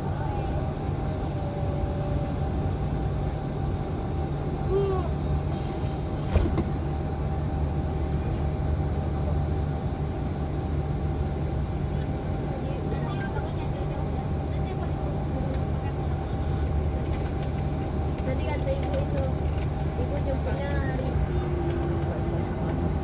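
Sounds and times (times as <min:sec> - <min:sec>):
ferry engine droning: 0:00.0 - 0:23.0.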